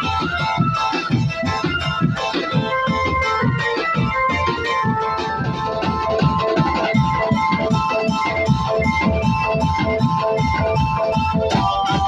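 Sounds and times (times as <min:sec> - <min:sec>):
loud music with drumbeat: 0:00.0 - 0:12.0.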